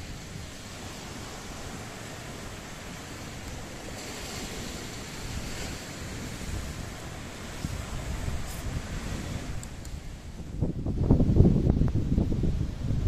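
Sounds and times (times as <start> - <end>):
surf washing on beach: 0.0 - 13.0
wind rumbling on microphone: 0.0 - 13.0.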